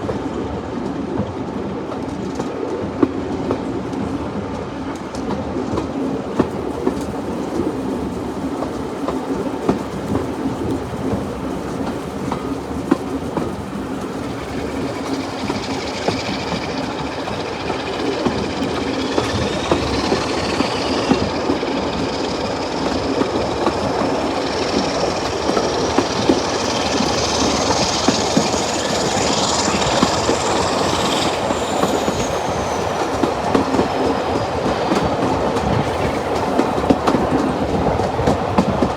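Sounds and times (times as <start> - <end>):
train rumbling along rails: 0.0 - 38.9
wheels clicking over rail joints: 4.9 - 38.9
high wheel squeal: 6.0 - 38.9.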